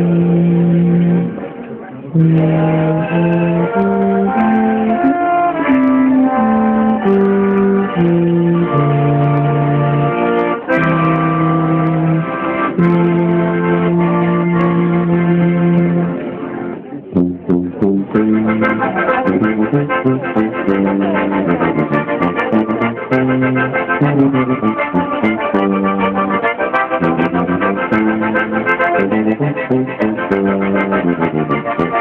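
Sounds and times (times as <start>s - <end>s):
brass band playing: 0.0s - 32.0s.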